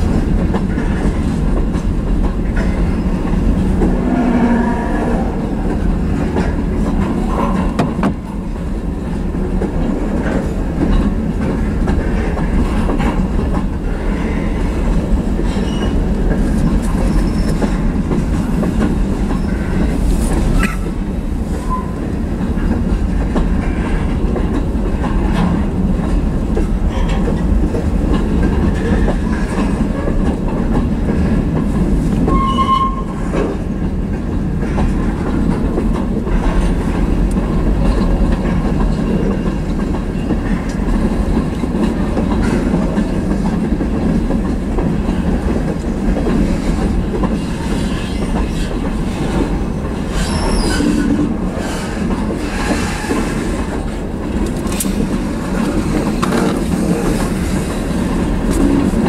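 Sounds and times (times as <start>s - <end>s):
wheels clicking over rail joints: 0.0s - 59.0s.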